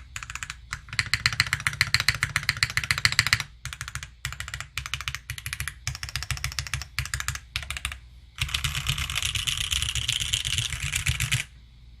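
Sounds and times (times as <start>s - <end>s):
typing on mechanical keyboard: 0.0s - 11.5s.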